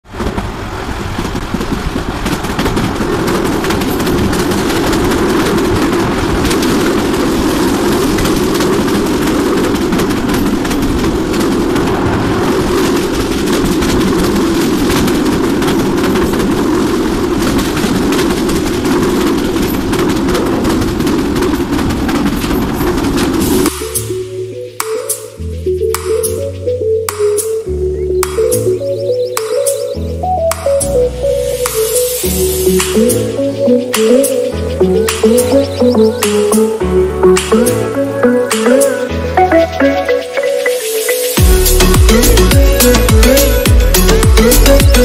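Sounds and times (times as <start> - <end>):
train rumble: 0.0 - 24.8, 28.4 - 45.0
wheels clattering on rails: 0.0 - 45.0.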